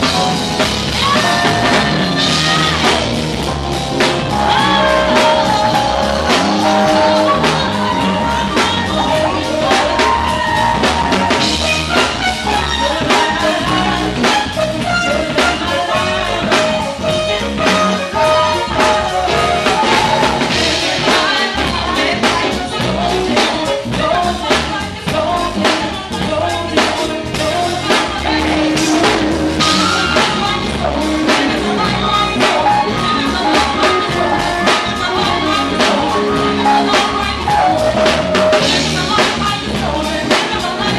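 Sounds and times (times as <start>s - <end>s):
bass: 0.0s - 40.9s
drum kit beat: 0.0s - 40.9s
person singing: 0.0s - 40.9s.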